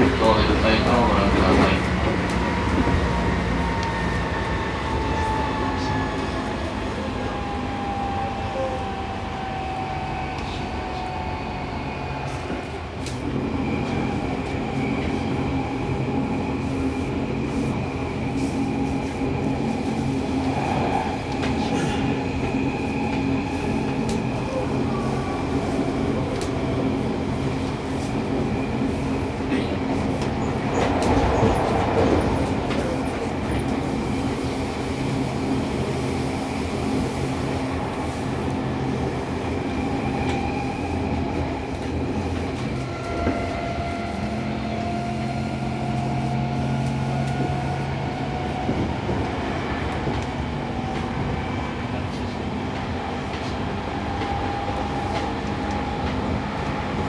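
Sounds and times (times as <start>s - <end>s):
wheel-on-rail rumble and clatter: 0.0s - 8.1s, 12.1s - 57.0s
train motors humming: 0.0s - 57.0s.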